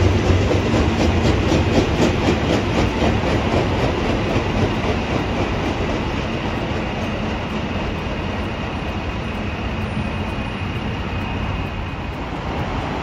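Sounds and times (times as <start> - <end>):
train wheels clicking over rail joints: 0.0 - 13.0.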